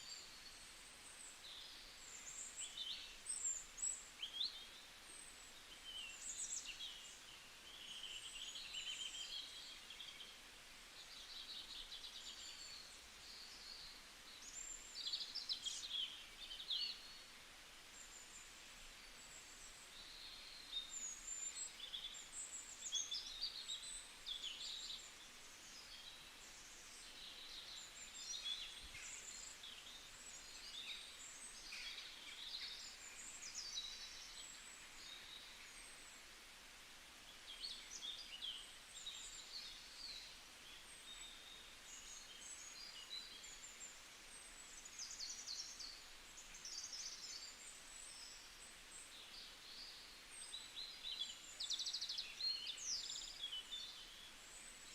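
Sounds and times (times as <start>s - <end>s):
small birds chirping and trilling: 0.0s - 36.4s, 37.2s - 54.9s
faint outdoor hiss: 0.0s - 54.9s.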